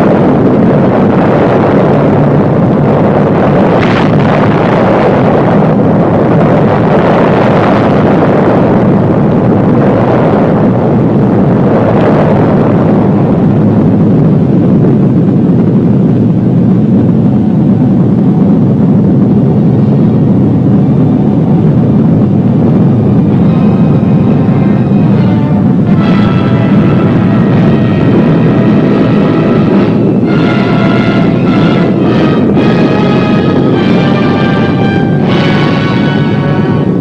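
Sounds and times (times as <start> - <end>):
deep explosion rumble: 0.0 - 37.0.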